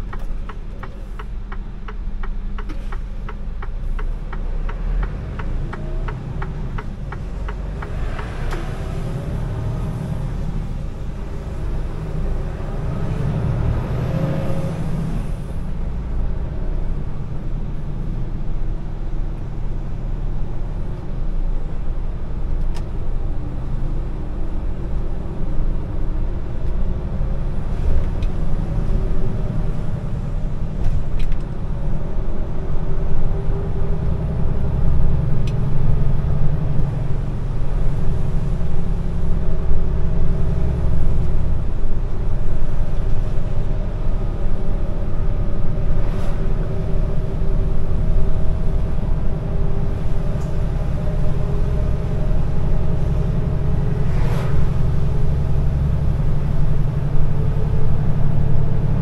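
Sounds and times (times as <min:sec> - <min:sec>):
truck diesel engine rumbling: 0:00.0 - 0:59.0.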